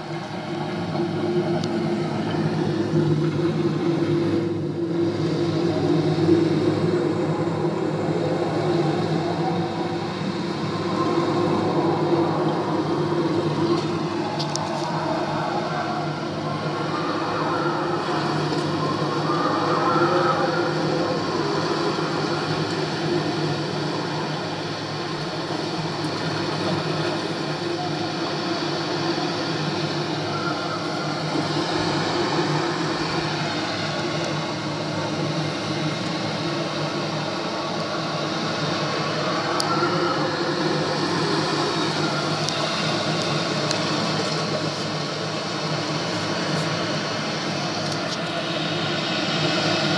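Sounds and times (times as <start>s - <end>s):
rushing rumble through television speaker: 0.0s - 49.9s.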